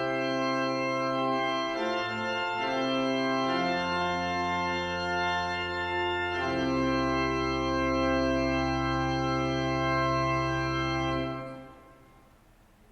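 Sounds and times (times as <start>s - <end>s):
organ chords: 0.0s - 12.9s.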